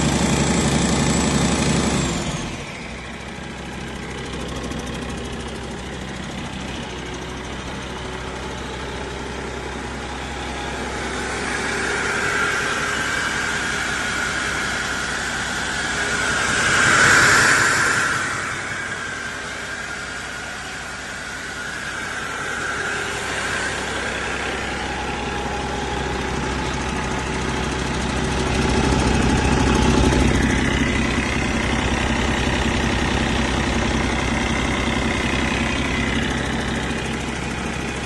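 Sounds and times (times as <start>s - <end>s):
diesel engine running: 0.0s - 38.0s
high whine: 2.7s - 38.0s.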